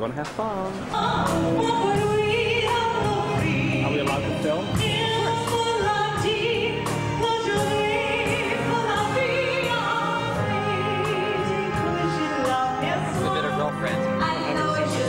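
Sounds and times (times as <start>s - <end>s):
live band playing: 0.6s - 15.0s
woman singing operatic vibrato: 0.8s - 4.0s, 4.8s - 15.0s.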